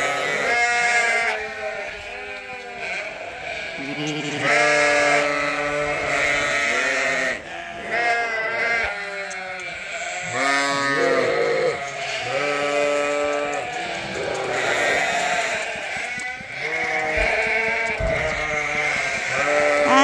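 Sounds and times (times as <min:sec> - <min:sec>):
sheep bleating: 0:00.0 - 0:20.0.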